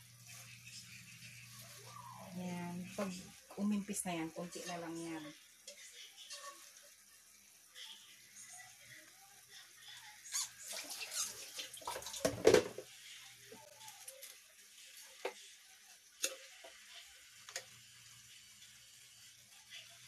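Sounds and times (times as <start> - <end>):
vegetables steaming in a wok: 0.0 - 20.0.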